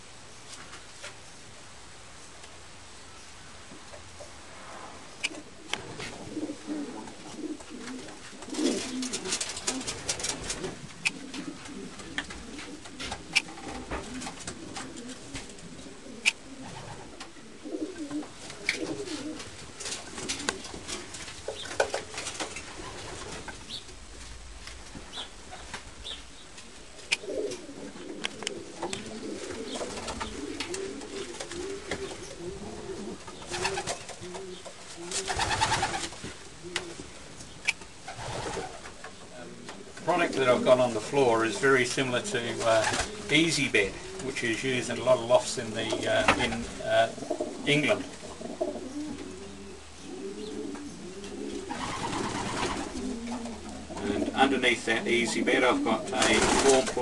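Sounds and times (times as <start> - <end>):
pigeons cooing: 5.2 - 57.0.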